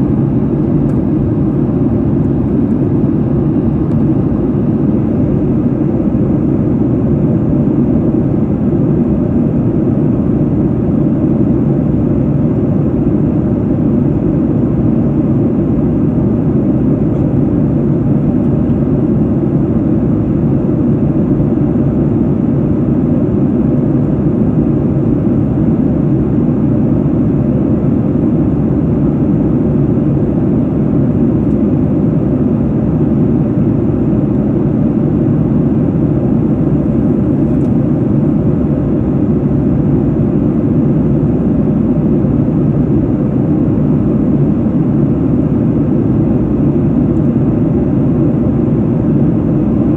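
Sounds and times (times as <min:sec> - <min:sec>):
jet engines and airflow rumble: 0:00.0 - 0:49.9.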